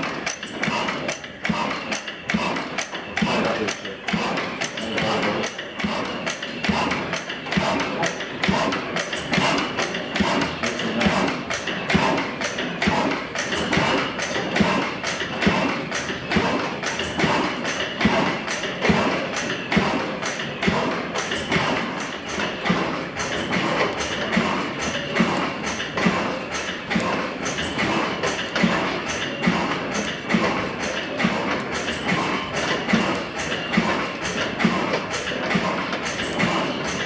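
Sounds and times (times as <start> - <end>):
stationary engines and line shafting: 0.0 - 37.0.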